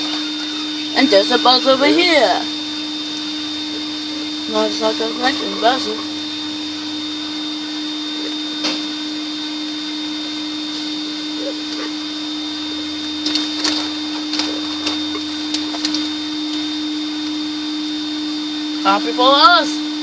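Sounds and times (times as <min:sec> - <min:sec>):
car wash whirring buzz: 0:00.0 - 0:20.0.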